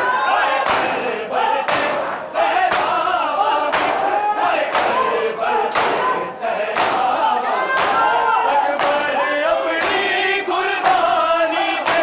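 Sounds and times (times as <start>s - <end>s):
crowd chanting: 0.0s - 12.0s
men slapping chests in unison: 0.0s - 12.0s.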